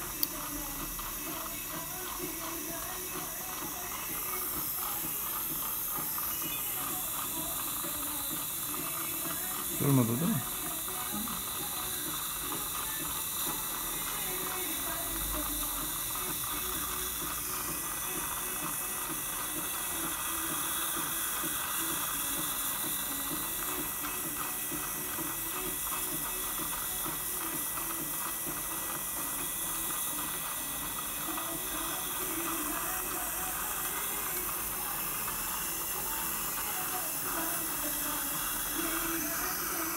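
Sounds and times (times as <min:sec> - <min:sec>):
saliva ejector suction hissing: 0:00.0 - 0:39.9.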